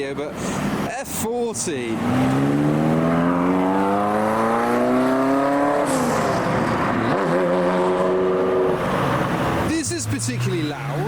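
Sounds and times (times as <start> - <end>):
sports car engine accelerating: 1.8 - 11.0.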